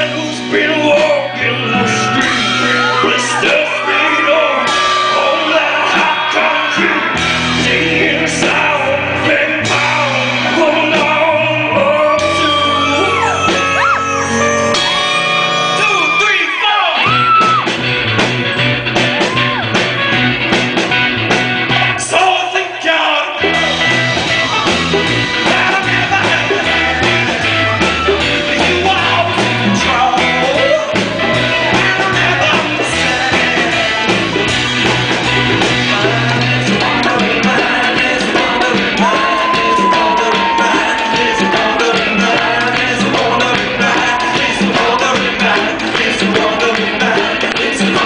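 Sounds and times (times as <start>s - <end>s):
person singing: 0.0s - 17.6s, 24.4s - 48.0s
live rock band playing: 0.0s - 48.0s.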